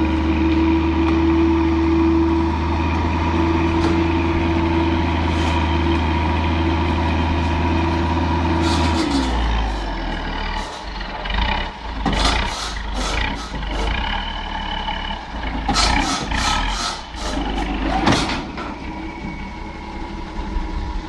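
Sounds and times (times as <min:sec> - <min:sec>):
heavy engine running: 0:00.0 - 0:21.0.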